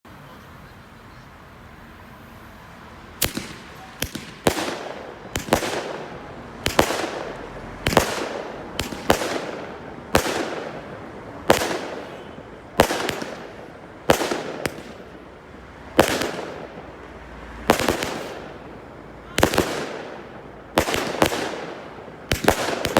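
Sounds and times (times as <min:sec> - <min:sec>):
fireworks bangs with crackle: 0:03.2 - 0:22.9.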